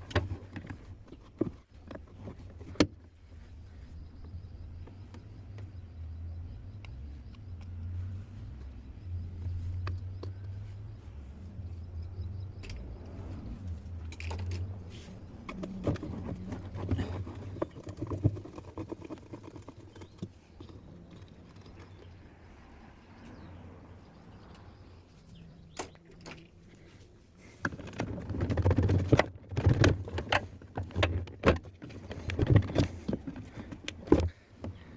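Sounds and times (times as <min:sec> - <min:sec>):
low rumble of parts handled: 0:00.0 - 0:34.9.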